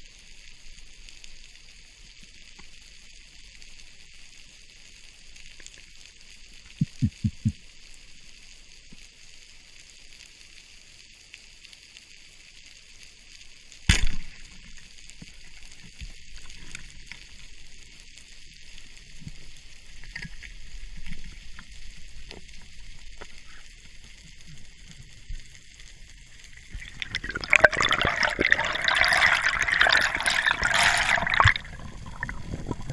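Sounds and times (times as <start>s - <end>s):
underwater crackle: 0.0s - 32.9s.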